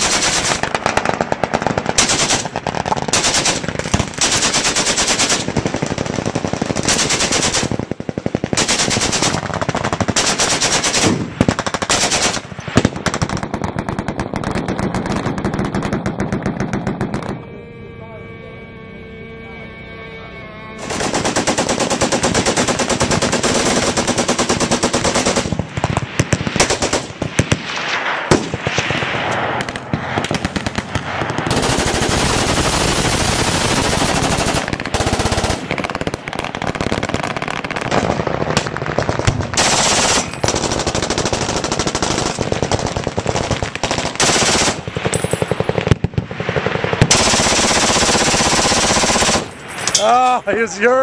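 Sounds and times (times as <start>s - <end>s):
machine guns firing full-auto: 0.0s - 17.4s, 20.8s - 29.0s, 29.6s - 49.7s.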